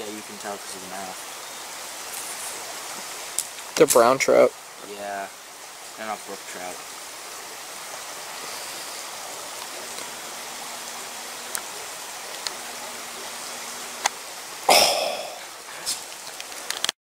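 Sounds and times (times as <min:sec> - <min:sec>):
stream flowing over rock: 0:00.0 - 0:17.0.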